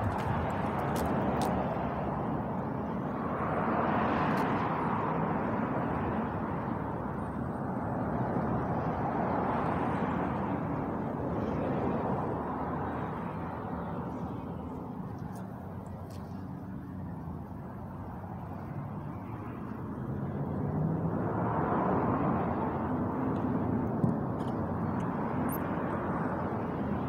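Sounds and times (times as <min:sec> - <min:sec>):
road vehicles rushing past: 0:00.0 - 0:27.0.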